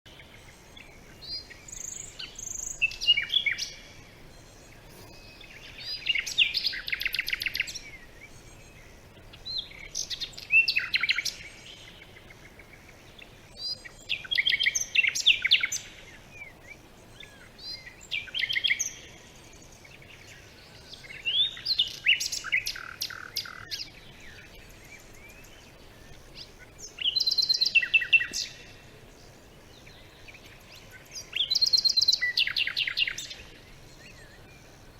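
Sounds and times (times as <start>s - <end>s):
faint background hiss: 0.1s - 34.9s
songbird chirps and trills: 0.1s - 34.9s.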